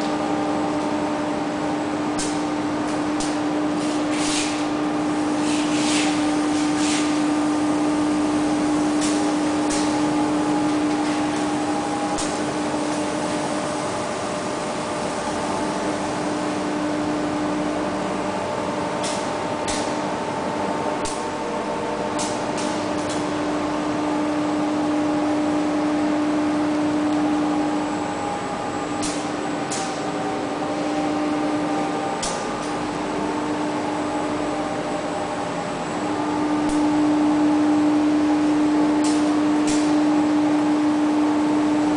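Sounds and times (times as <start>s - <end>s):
machinery motor hum: 0.0s - 41.9s.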